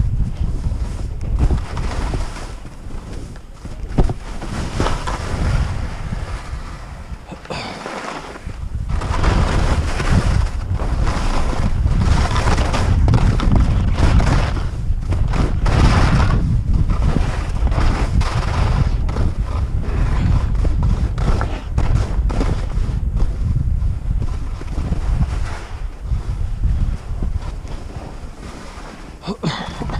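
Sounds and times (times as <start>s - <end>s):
skis scraping over snow: 0.0s - 29.2s
wind buffeting microphone: 0.0s - 29.9s.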